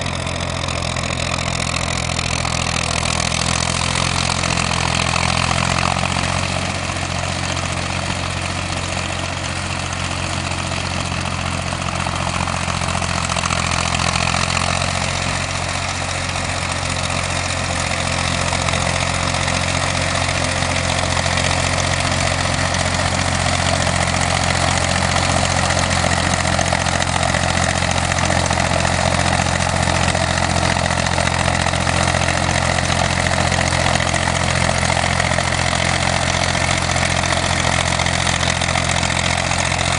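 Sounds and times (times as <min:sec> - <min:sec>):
tractor diesel engine clattering: 0:00.0 - 0:39.9.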